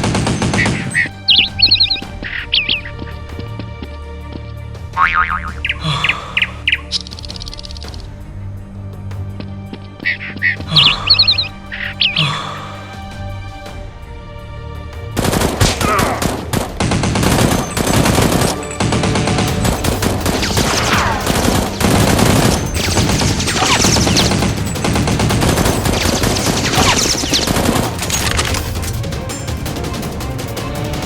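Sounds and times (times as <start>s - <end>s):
background music: 0.0s - 31.0s.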